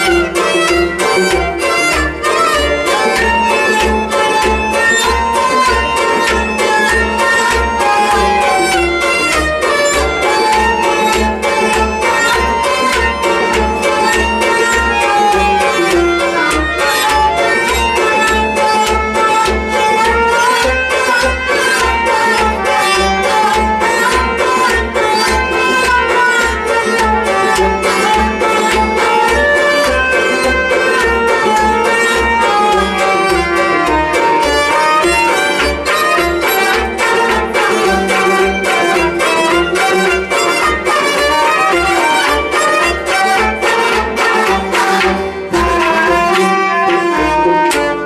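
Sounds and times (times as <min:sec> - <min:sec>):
bowed string melody: 0:00.0 - 0:48.0.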